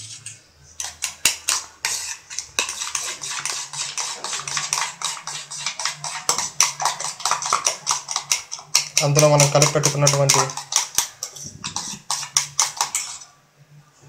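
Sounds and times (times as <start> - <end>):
oil sizzling: 0.8 - 13.3.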